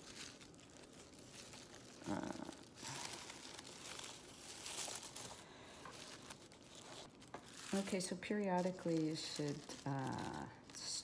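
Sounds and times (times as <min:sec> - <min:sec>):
foil crinkling and rustling: 0:00.0 - 0:11.0.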